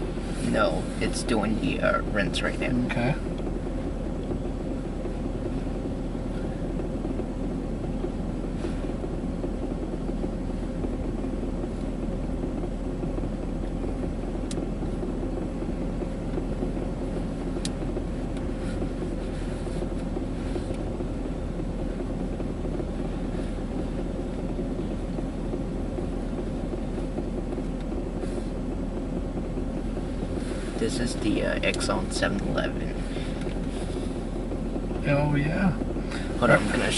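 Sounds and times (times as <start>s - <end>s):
faint constant hum: 0.0s - 36.9s
low mechanical rumble: 0.0s - 36.9s.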